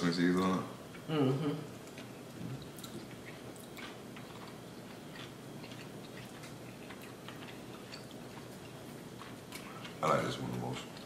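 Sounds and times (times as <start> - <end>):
chewing food: 1.7 - 11.0.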